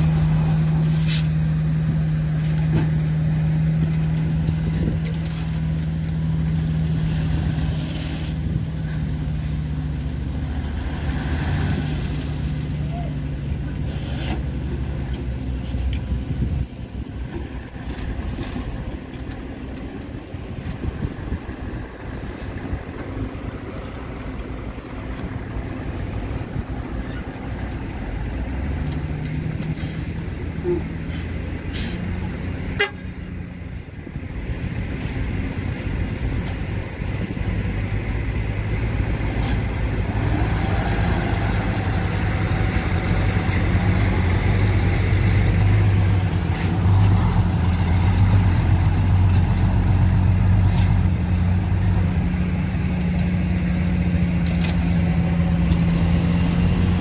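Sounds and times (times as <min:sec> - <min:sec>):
dump truck diesel engine drone: 0:00.0 - 0:57.0.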